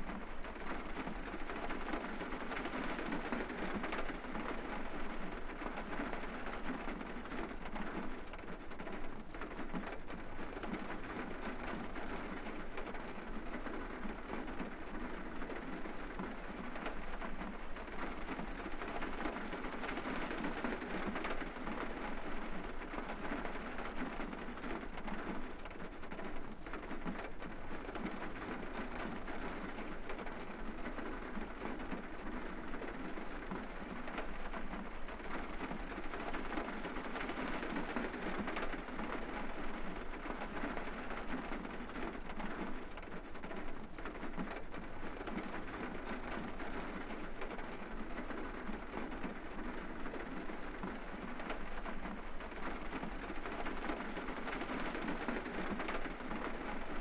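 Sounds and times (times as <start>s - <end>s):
rain on car roof: 0.0s - 57.0s.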